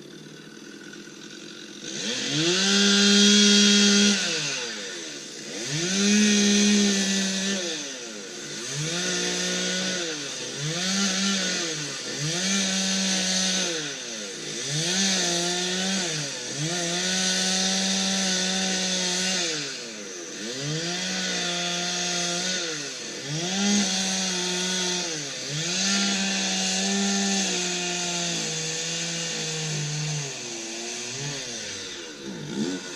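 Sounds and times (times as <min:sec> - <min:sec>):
chainsaw revving cutting wood: 0:00.0 - 0:32.9.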